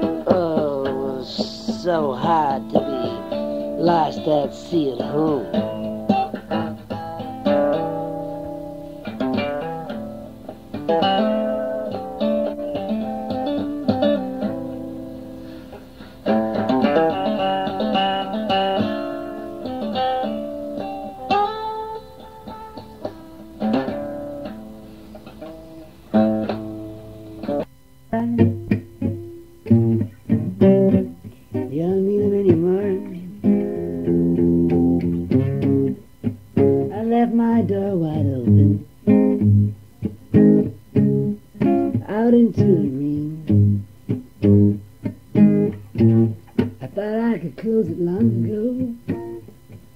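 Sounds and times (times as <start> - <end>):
guitar picked notes and chords: 0.0 - 49.9.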